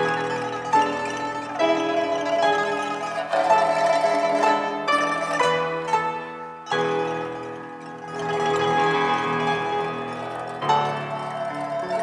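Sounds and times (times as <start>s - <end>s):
piano chords: 0.0s - 12.0s
plucked pipa notes: 0.0s - 12.0s.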